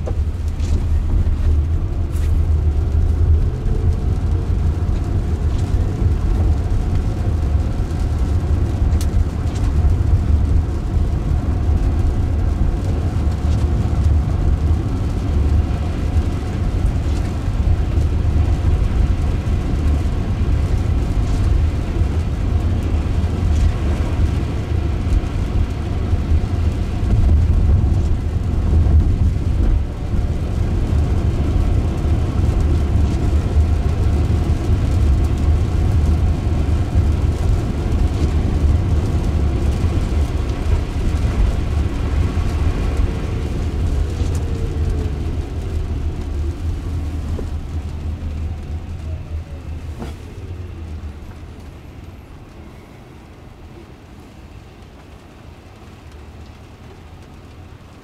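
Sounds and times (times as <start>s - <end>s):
tyres rumbling on wet road: 0.0s - 58.0s.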